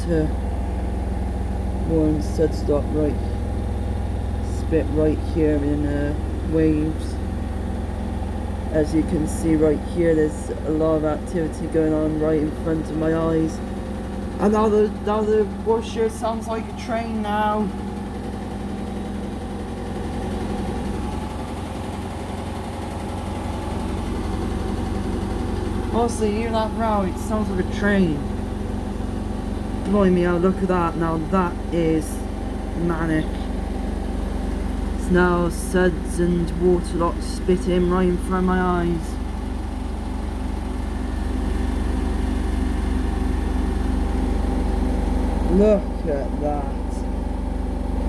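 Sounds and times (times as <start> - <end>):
washing machine spinning fast: 0.0 - 48.0.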